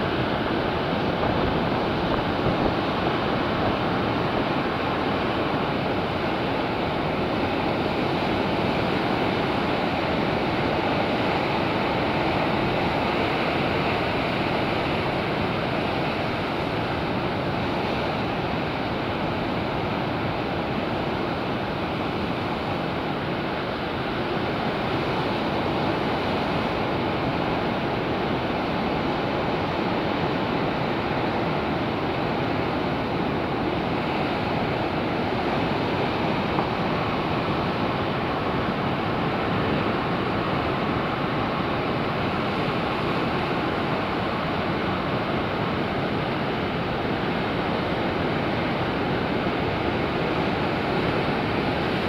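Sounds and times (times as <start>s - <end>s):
wind rumble on microphone: 0.0s - 52.0s.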